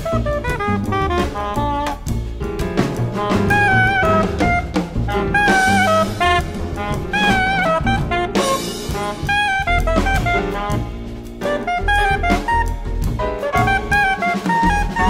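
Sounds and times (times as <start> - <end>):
big band jazz: 0.0 - 15.0.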